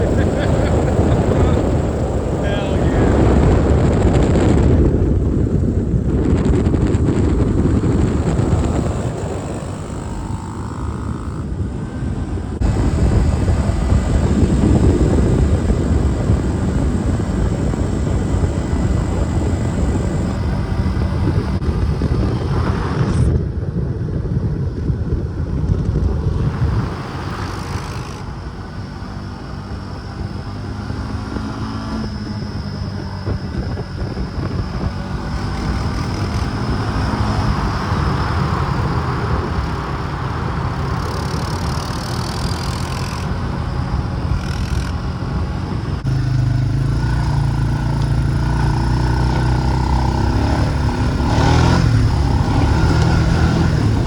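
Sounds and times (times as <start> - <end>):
atv engines droning: 0.0 - 54.0.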